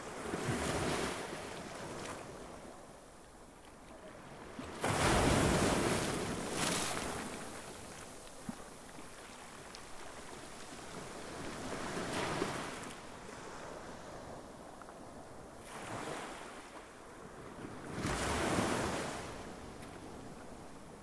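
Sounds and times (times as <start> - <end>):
small waves washing onto beach: 0.0 - 21.0.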